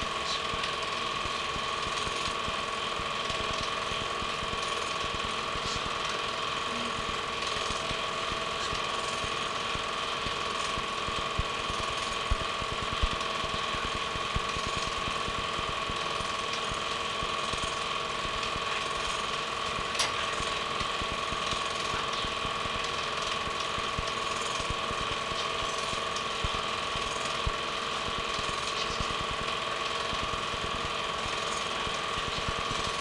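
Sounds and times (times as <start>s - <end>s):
film projector whirring and clattering: 0.0s - 33.0s.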